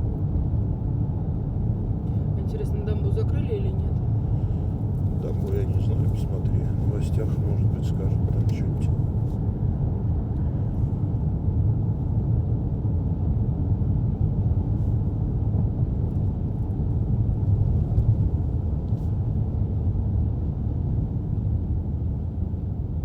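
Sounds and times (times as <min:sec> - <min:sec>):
car road and engine noise: 0:00.0 - 0:23.0.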